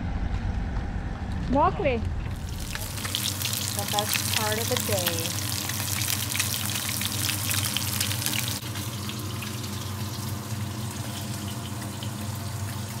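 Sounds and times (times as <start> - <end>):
steady low hum: 0.0 - 12.4
fish frying in hot oil: 2.4 - 13.0.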